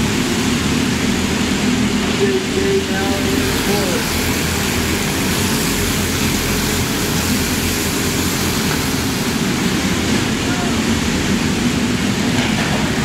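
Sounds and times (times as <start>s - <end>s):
racing kart engines: 0.0s - 13.0s.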